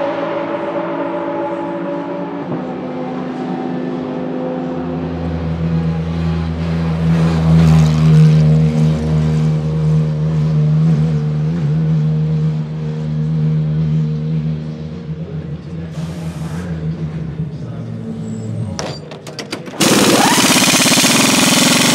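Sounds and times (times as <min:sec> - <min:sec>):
race car engine low rumble: 0:00.0 - 0:20.7
distant car engine: 0:00.0 - 0:21.9.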